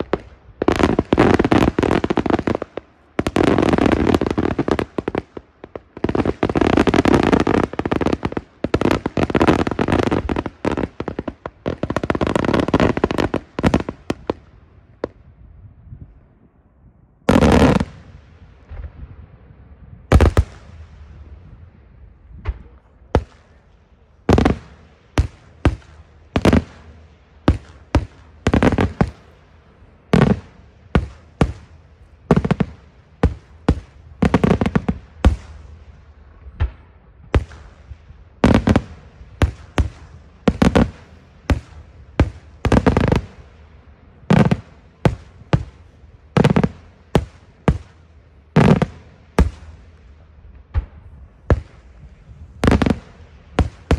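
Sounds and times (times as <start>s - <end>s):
fireworks bangs: 0.0s - 15.2s, 17.3s - 19.3s, 20.0s - 53.9s
fireworks crackling: 0.0s - 15.2s, 17.3s - 19.0s, 20.1s - 21.6s, 22.2s - 53.9s.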